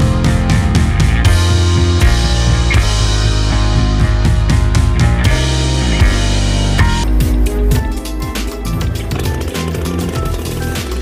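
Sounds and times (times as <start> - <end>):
rock music with steady beat: 0.0 - 11.0.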